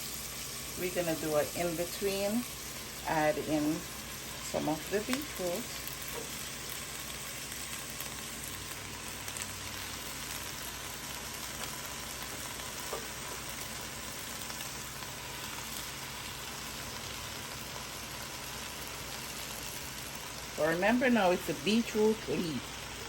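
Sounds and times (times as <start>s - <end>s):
leaves sizzling in a hot pot: 0.0s - 23.0s.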